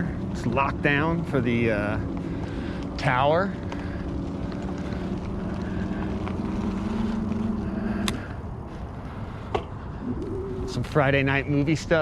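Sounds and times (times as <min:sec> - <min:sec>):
electric bike motor humming: 0:00.0 - 0:10.8
rolling and wind noise: 0:00.0 - 0:12.0.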